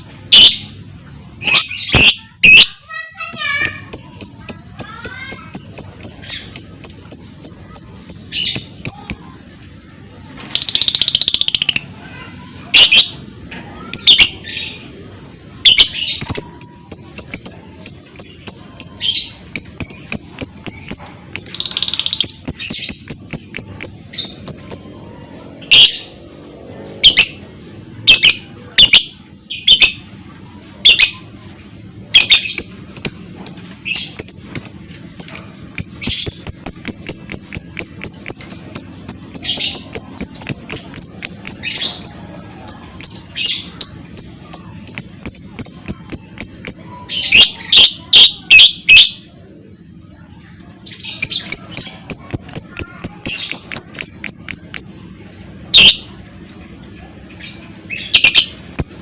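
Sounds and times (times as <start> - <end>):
bird chattering trill: 0.0 - 0.8, 1.4 - 9.4, 10.4 - 14.9, 15.6 - 26.1, 28.0 - 30.1, 32.0 - 56.3, 57.0 - 59.0.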